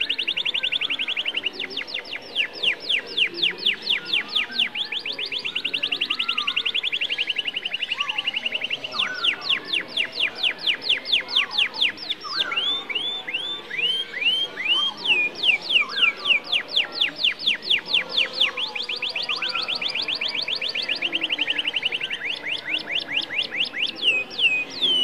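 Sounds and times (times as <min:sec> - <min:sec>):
canary singing trills: 0:00.0 - 0:25.0
low bird chirps: 0:00.0 - 0:25.0.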